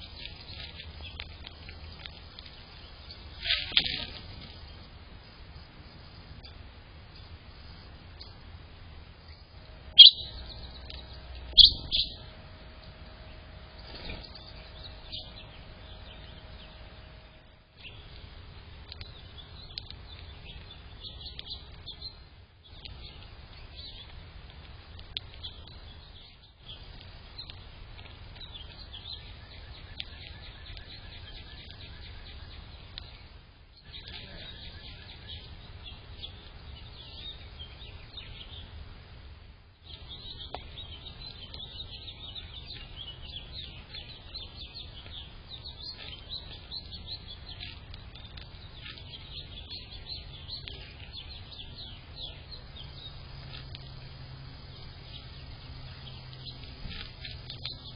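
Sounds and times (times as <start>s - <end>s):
low background rumble: 0.0s - 57.9s
small birds chirping: 0.0s - 57.9s.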